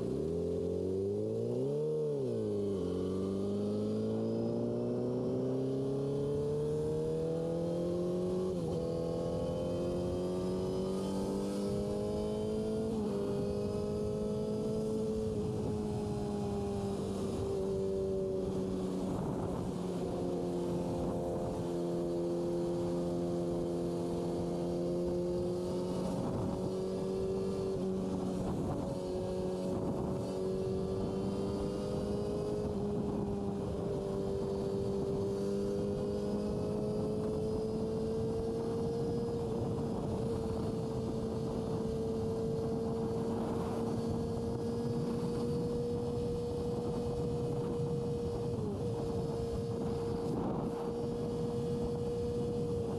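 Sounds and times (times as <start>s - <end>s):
motorcycle engine cruising: 0.0s - 52.9s
wind and road noise: 0.0s - 52.9s.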